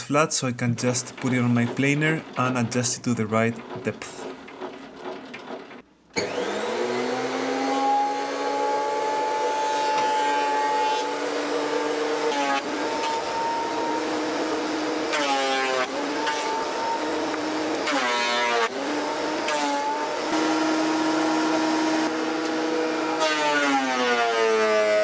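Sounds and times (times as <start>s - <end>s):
board fed through planer: 0.7s - 25.0s
thickness planer motor whine: 4.6s - 25.0s.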